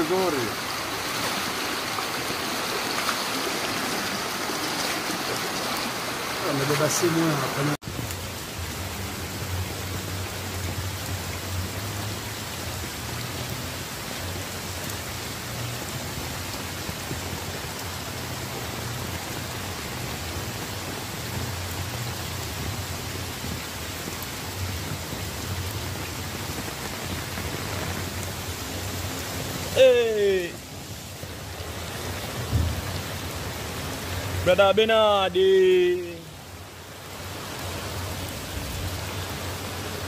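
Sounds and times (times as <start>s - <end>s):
steady rain on water: 0.0s - 40.0s.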